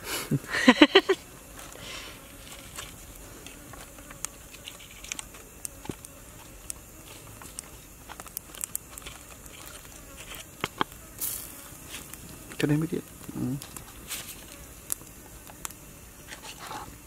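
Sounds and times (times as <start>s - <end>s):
crab shell snapping and crackling: 2.5s - 16.4s.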